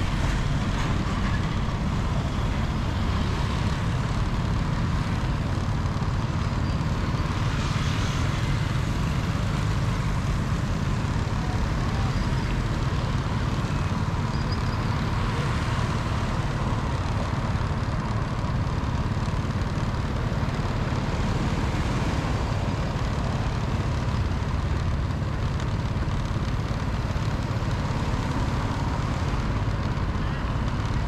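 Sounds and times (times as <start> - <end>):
vehicle engine and tyre rumble: 0.0 - 31.0.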